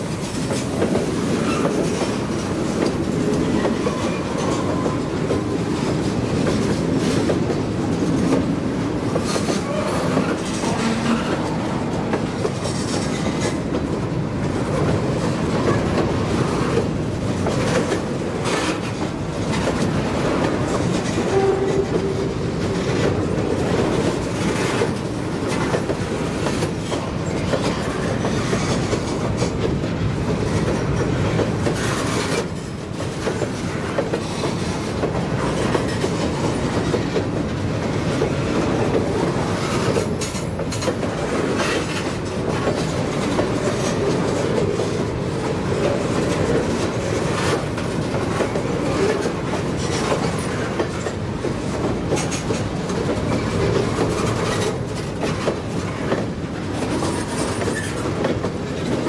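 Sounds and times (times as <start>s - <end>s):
train wheels rumbling on rail: 0.0s - 59.0s
wheels clickety-clack on rail joints: 0.0s - 59.0s.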